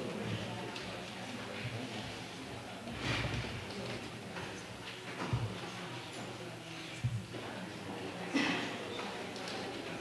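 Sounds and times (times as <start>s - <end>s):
indistinct chatter: 0.0s - 10.0s.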